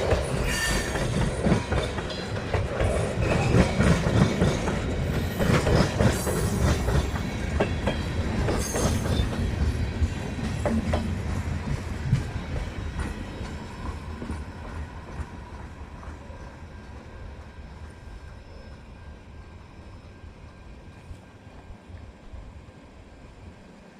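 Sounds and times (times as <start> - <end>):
freight train rolling past: 0.0 - 23.9.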